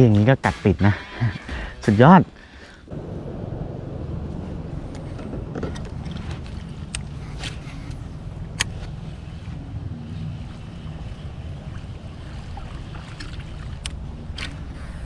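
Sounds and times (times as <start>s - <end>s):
low rumble on water: 0.0s - 15.0s
faint wavering hum: 1.0s - 15.0s
wind on microphone: 2.8s - 15.0s.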